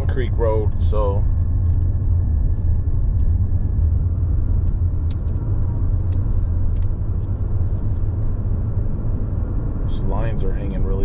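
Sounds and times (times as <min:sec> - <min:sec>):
car tyres and engine rumble: 0:00.0 - 0:11.0.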